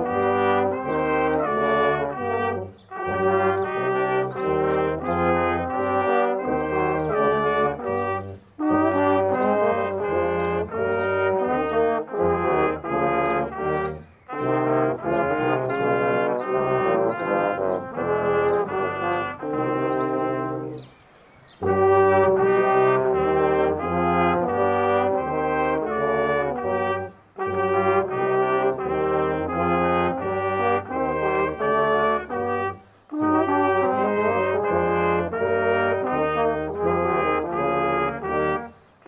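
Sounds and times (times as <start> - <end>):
brass choir playing a hymn: 0.0 - 38.9.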